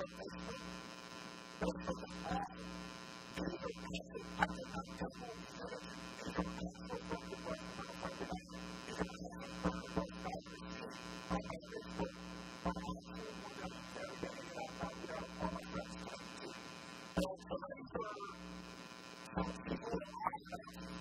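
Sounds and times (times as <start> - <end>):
muffled voice: 0.0 - 1.0, 1.6 - 18.6, 19.2 - 21.0.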